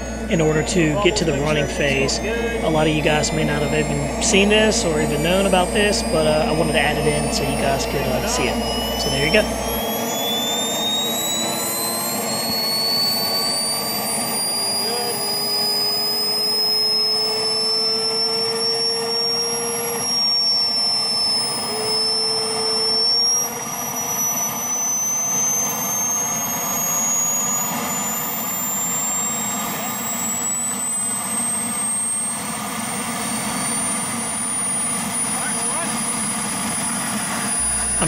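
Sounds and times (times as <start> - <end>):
jet turbine whine spooling up: 0.0 - 38.0.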